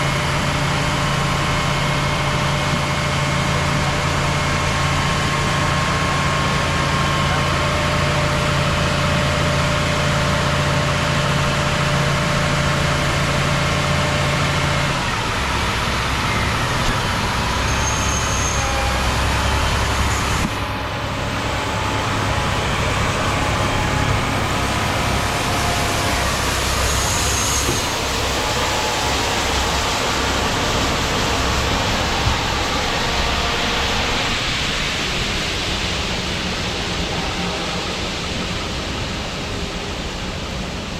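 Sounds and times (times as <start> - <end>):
diesel harvest machinery running: 0.0 - 40.9.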